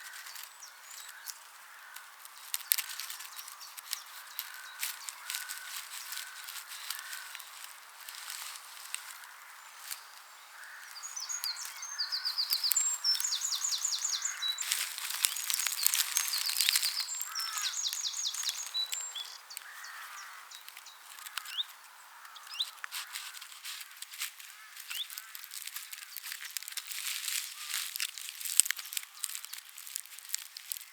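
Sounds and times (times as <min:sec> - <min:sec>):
crackling clicks: 0:00.0 - 0:10.0, 0:10.6 - 0:30.9
songbirds singing: 0:00.0 - 0:30.9.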